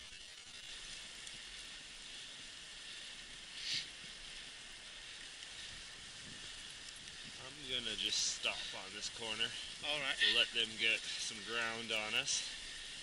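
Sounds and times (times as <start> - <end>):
sled runners hissing over snow: 0.0 - 13.0.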